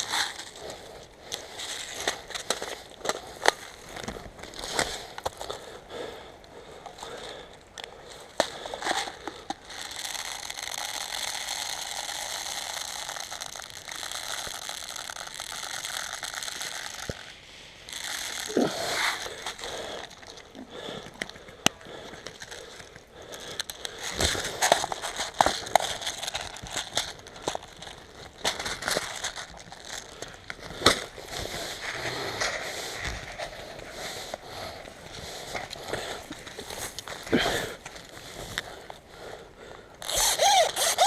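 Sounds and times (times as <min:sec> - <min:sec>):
rustling: 0:00.0 - 0:06.0, 0:06.9 - 0:41.0.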